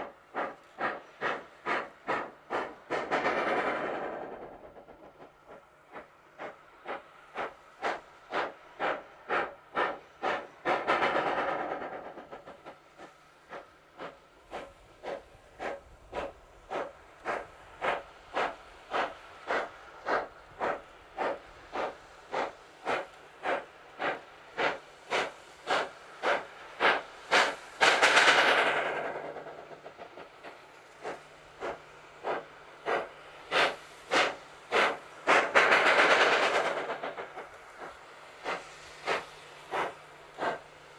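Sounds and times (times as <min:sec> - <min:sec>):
steam locomotive chuffing: 0:00.0 - 0:40.9.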